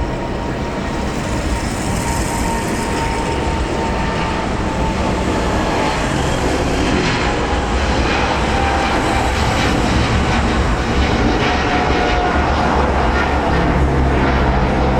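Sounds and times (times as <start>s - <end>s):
faint engine whine: 0.0s - 14.9s
jet airliner engines roaring: 0.0s - 14.9s.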